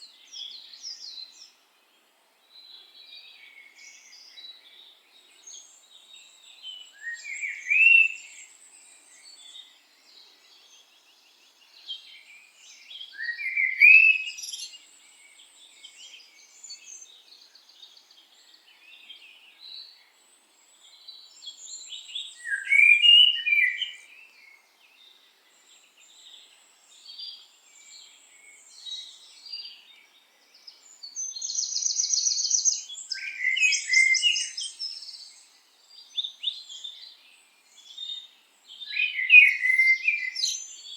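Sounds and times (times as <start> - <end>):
birds singing and chirping: 2.6 - 40.9.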